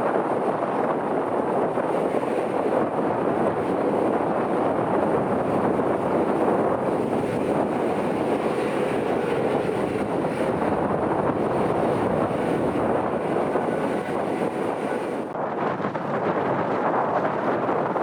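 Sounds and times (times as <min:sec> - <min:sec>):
aircraft engines running: 0:00.0 - 0:18.0
wind buffeting microphone: 0:00.0 - 0:18.0.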